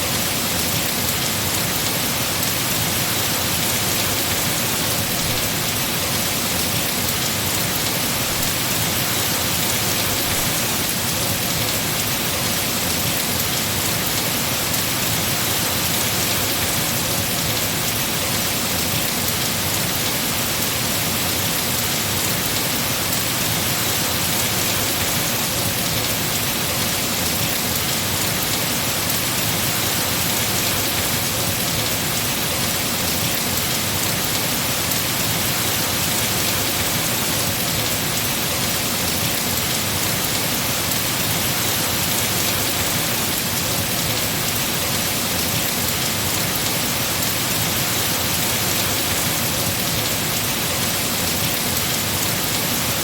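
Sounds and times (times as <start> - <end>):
heavy rain on trees: 0.0 - 53.0.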